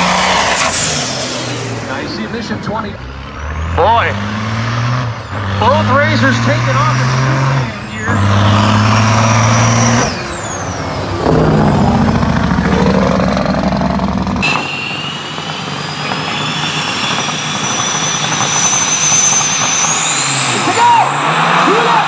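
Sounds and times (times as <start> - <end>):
diesel truck engines revving hard: 0.0 - 22.0
turbocharger whistles: 0.0 - 22.0.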